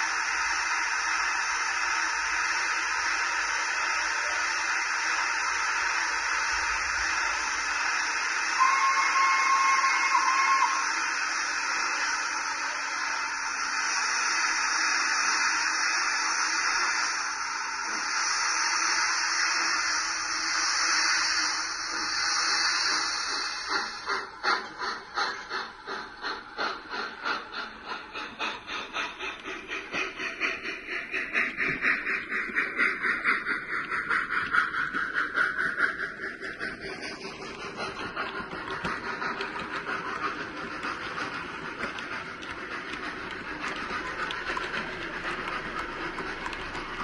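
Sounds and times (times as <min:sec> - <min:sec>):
model steam locomotive chuffing: 0:00.0 - 0:47.0
steam hissing: 0:00.0 - 0:47.0.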